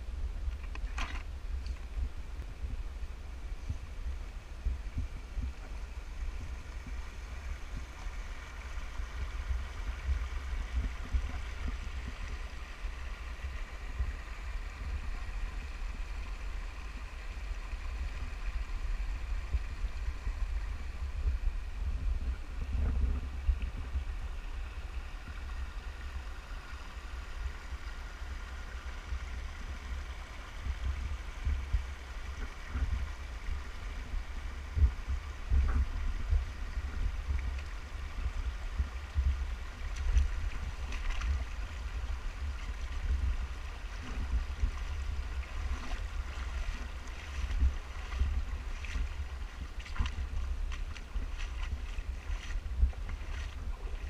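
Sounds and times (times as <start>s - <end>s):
stream running over stones: 0.0s - 54.0s
wind buffeting microphone: 0.0s - 54.0s.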